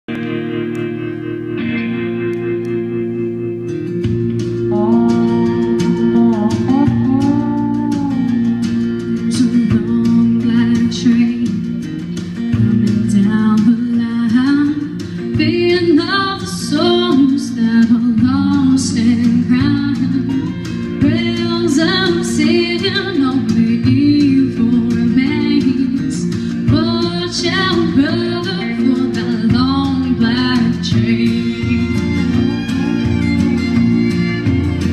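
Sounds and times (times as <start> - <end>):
guitar accompaniment: 0.0 - 34.9
woman singing: 4.6 - 33.6.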